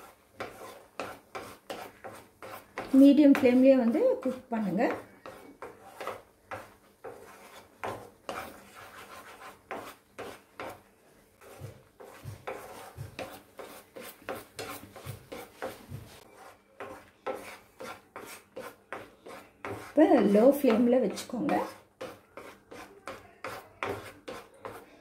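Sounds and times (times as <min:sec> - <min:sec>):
wooden spatula scraping a pan: 0:00.0 - 0:25.0.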